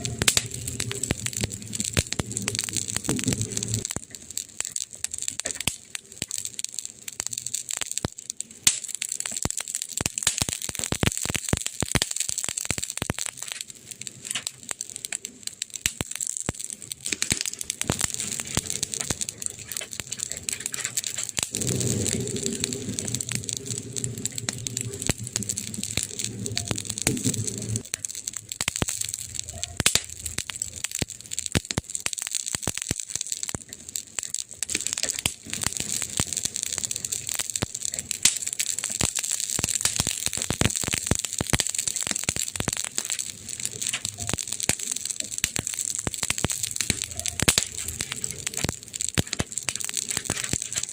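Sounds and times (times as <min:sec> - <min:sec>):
burning wood crackling: 0:00.0 - 0:50.9.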